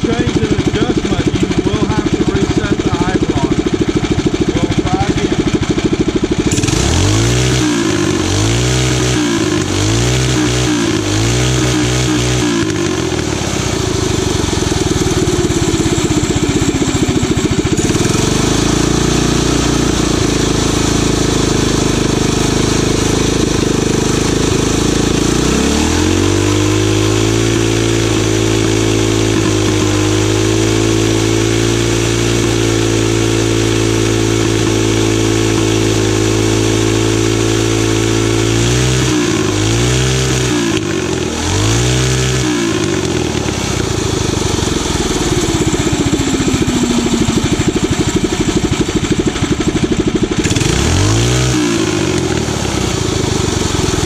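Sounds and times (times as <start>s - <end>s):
small engine revving: 0.0s - 54.0s.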